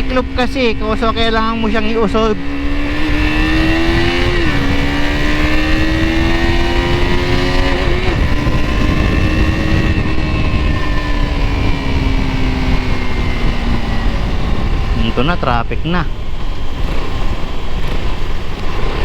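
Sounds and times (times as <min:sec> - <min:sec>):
low wind rumble: 0:00.0 - 0:19.0
motorcycle engine running: 0:00.0 - 0:19.0.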